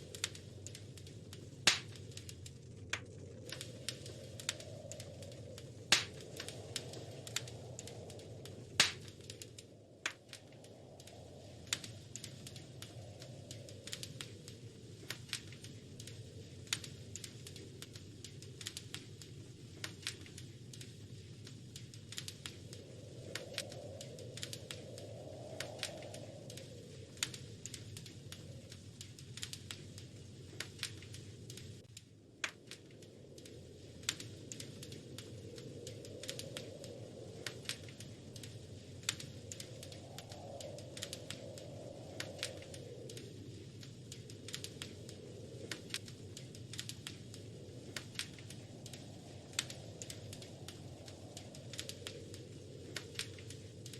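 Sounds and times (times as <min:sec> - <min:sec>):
low rumble of flames: 0:00.0 - 0:53.9
wood fire pops and snaps: 0:00.0 - 0:53.9.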